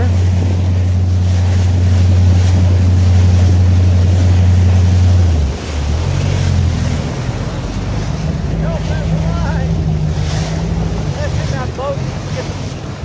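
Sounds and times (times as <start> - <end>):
motorboat engine running: 0.0 - 13.0
water noise: 0.0 - 13.0
wind buffeting microphone: 0.0 - 13.0.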